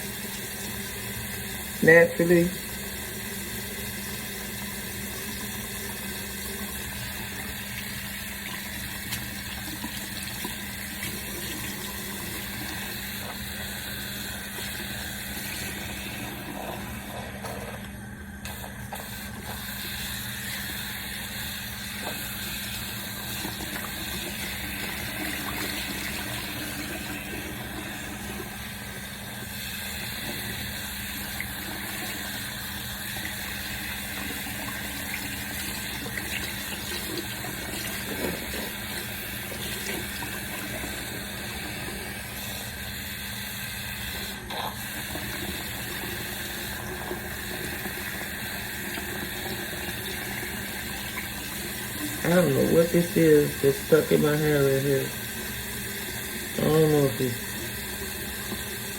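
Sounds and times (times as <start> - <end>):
water running from a tap: 0.0 - 58.9.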